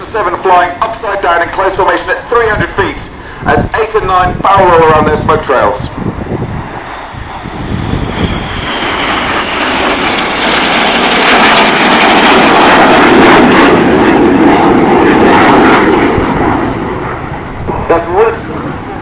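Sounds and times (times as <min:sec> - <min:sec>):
jets flying past: 0:00.0 - 0:19.0.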